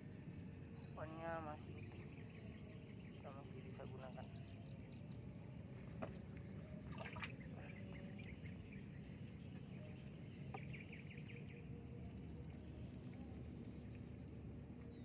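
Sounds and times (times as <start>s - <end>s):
low rumble of wind or water: 0.0s - 15.0s.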